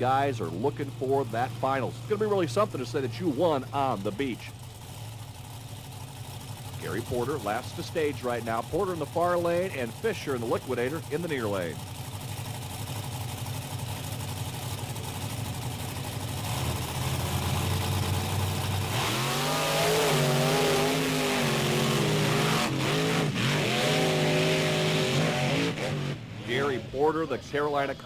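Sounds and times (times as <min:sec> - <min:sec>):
monster truck engines idling: 0:00.0 - 0:28.0
monster truck engines revving hard: 0:00.0 - 0:28.0.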